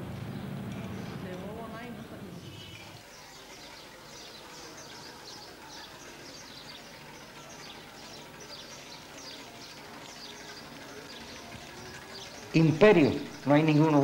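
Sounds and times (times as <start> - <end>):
outdoor background hum: 0.0 - 14.0
small birds chirping: 0.2 - 14.0.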